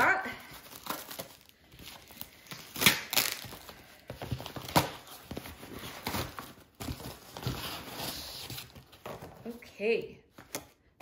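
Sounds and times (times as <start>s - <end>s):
packaging rustling: 0.4s - 9.6s.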